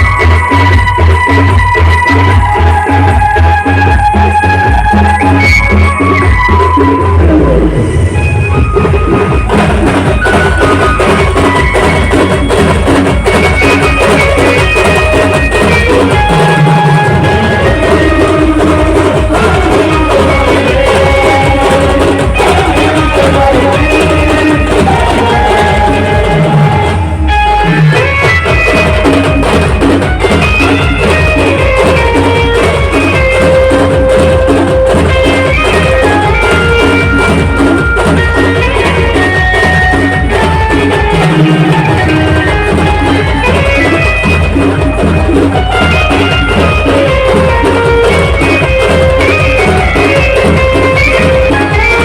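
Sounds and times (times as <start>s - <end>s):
band playing folk tune: 0.0s - 52.0s
dense drumbeat: 7.7s - 27.2s, 28.0s - 52.0s.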